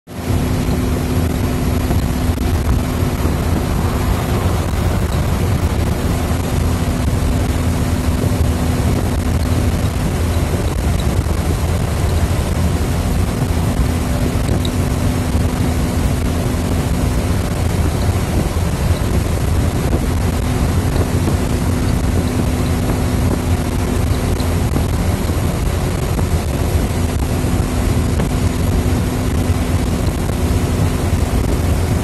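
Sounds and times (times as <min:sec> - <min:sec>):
low tyre and engine drone: 0:00.0 - 0:32.0
car interior road and wind noise: 0:00.1 - 0:32.0.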